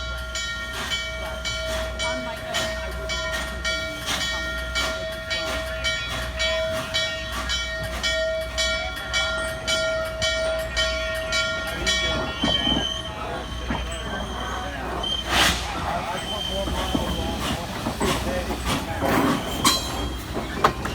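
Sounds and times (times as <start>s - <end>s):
steam locomotive chuffing: 0.0s - 20.9s.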